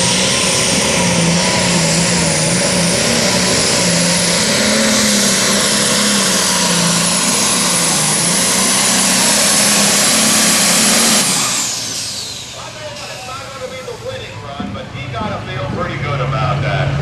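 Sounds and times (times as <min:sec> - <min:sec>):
diesel tractor engine under load: 0:00.0 - 0:17.0
turbocharger whine: 0:00.0 - 0:17.0.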